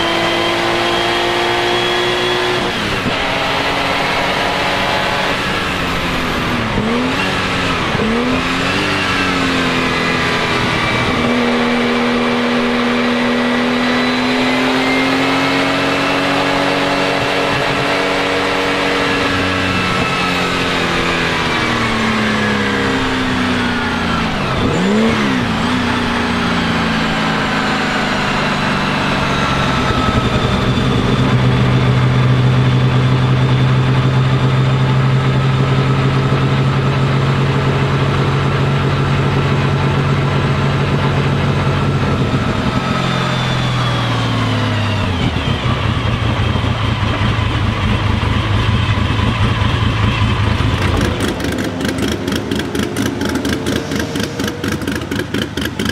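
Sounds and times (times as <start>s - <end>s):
race car engine running: 0.0s - 55.9s.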